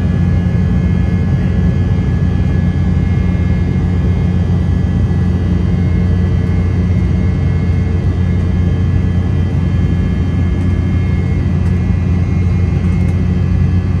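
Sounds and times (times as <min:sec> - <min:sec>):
airliner cabin rumble: 0:00.0 - 0:14.0
faint steady whine: 0:00.0 - 0:14.0.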